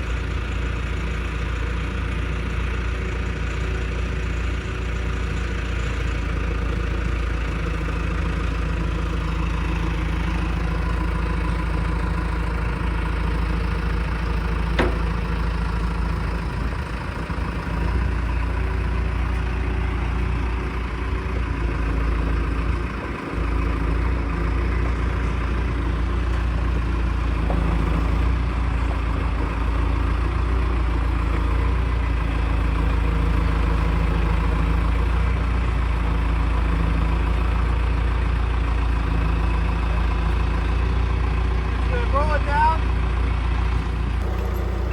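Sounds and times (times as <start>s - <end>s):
road noise: 0.0s - 44.9s
truck engine rumble: 0.0s - 44.9s.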